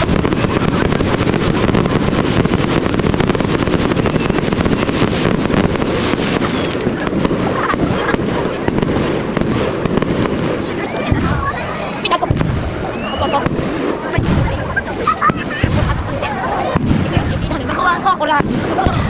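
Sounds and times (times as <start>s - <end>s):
fireworks booming: 0.0s - 19.0s
fireworks crackling: 0.0s - 19.0s.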